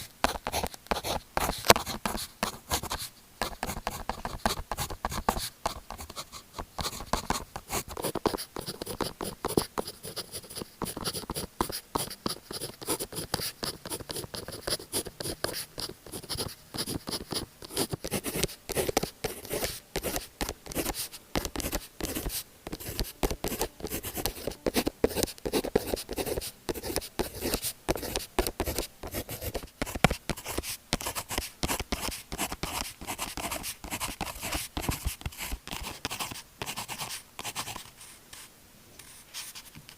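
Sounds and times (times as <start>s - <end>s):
pen scratching on paper: 0.2s - 39.7s.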